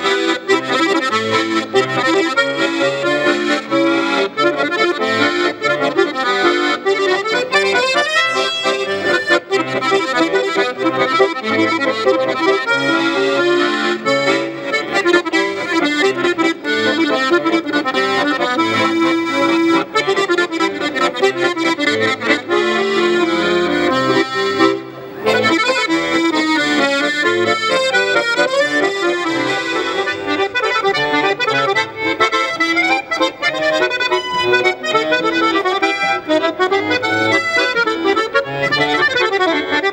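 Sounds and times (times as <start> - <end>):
accordion playing brisk melody: 0.0 - 39.9.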